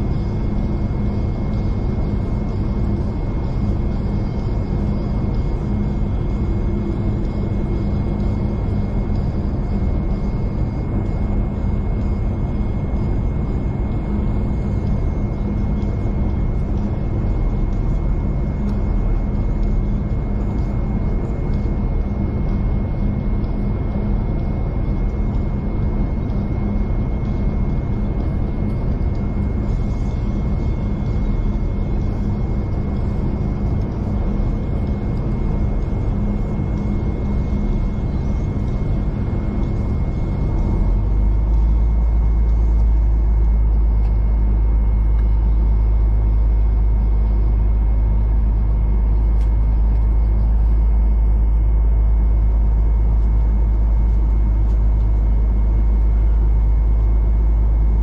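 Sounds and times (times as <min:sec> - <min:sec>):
steady hum: 0:00.0 - 0:58.0
thin high whine: 0:00.0 - 0:58.0.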